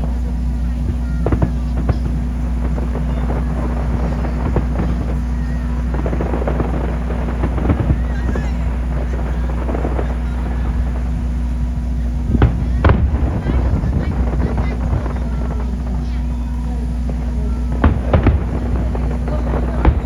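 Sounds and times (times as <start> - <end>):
fireworks bursting and crackling: 0.0 - 20.0
low engine-like hum: 0.0 - 20.0.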